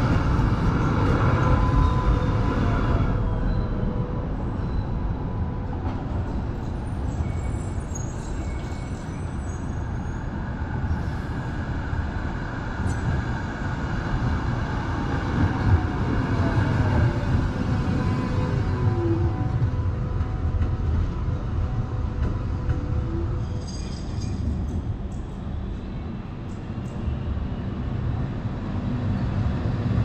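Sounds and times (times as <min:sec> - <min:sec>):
rumble of trams and traffic: 0:00.0 - 0:30.0.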